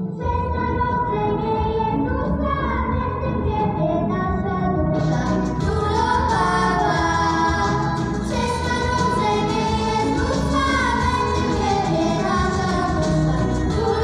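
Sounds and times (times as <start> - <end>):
children singing through loudspeakers: 0.0 - 14.0.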